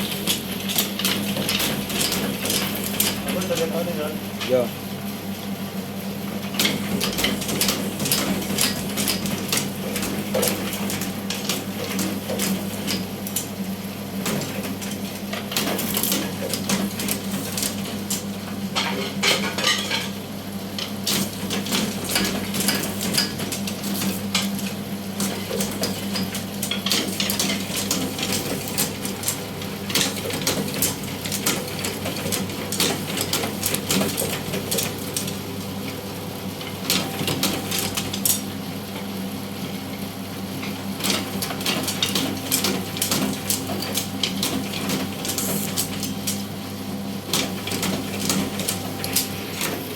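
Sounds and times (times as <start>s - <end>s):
steady motor hum: 0.0s - 49.9s.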